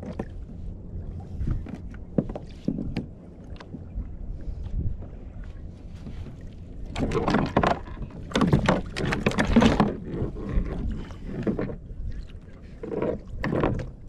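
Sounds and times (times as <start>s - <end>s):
steady low rumble: 0.0s - 14.0s
water splashing against kayak: 0.0s - 14.0s.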